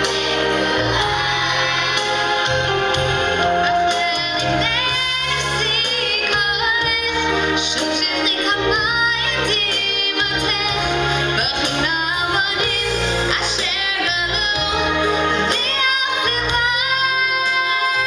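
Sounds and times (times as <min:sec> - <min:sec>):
girls singing: 0:00.0 - 0:12.8, 0:13.4 - 0:18.0
instrumental accompaniment: 0:00.0 - 0:18.0.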